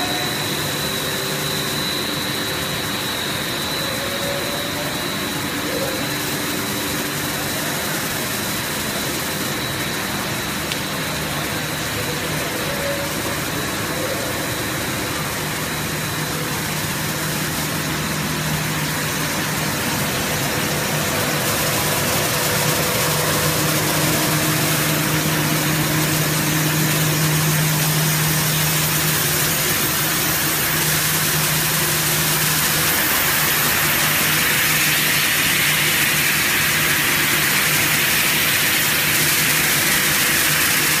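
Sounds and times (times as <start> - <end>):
machinery hiss: 0.0 - 41.0.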